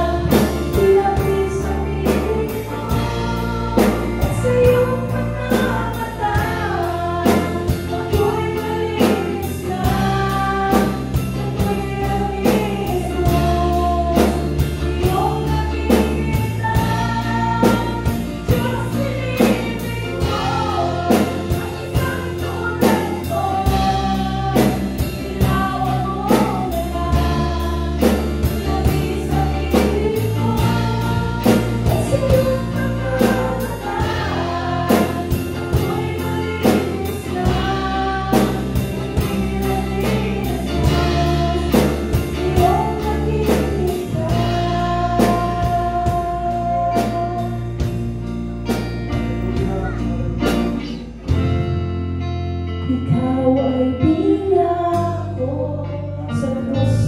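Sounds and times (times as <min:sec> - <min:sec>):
women singing worship song: 0:00.0 - 0:48.0, 0:52.9 - 0:57.0
band accompaniment: 0:00.0 - 0:55.5
sustained bass notes: 0:00.0 - 0:57.0.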